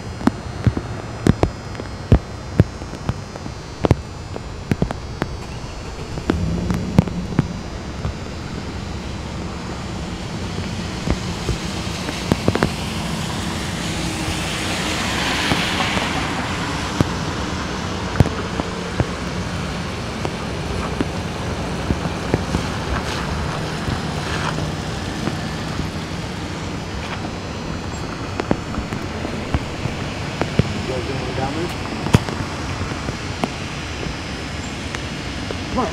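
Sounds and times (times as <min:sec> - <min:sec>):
car tyres on wet pavement: 0:00.0 - 0:35.9
rain: 0:00.0 - 0:35.9
traffic hiss: 0:00.0 - 0:35.9.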